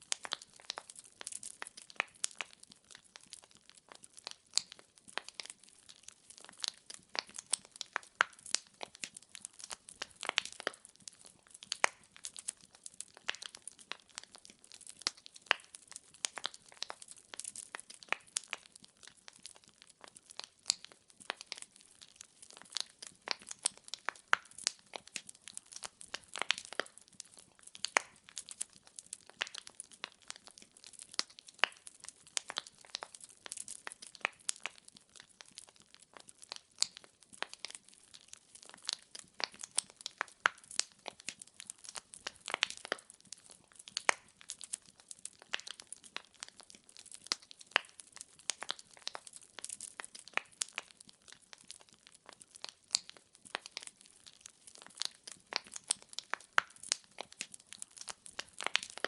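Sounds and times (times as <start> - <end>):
firewood crackling: 0.0 - 59.0
sharp pops of fire: 0.1 - 5.6, 6.3 - 51.0, 51.6 - 54.0, 54.6 - 59.0.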